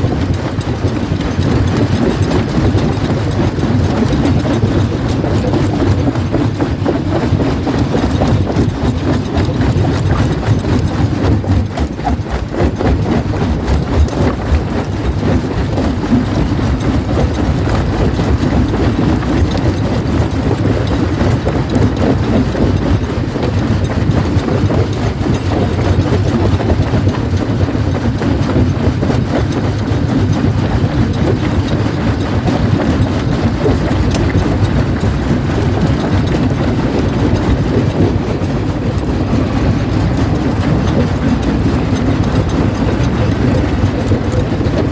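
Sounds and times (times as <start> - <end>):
jaw crusher rumble: 0.0 - 44.9.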